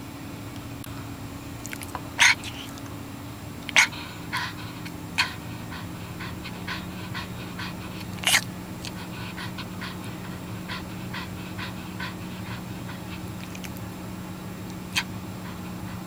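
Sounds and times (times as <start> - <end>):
dog panting: 1.6 - 3.0, 3.6 - 16.0.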